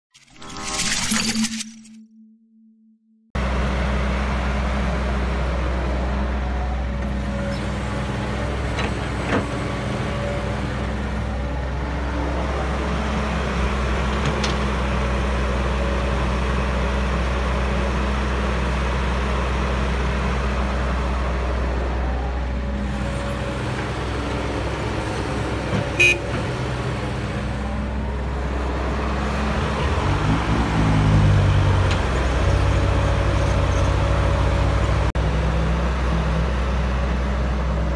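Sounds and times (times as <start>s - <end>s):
excavator diesel engine: 3.4s - 37.9s.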